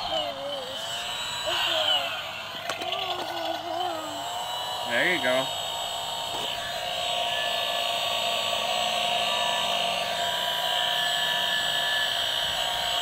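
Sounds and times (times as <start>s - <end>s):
toy leaf blower motor whining: 0.0s - 13.0s.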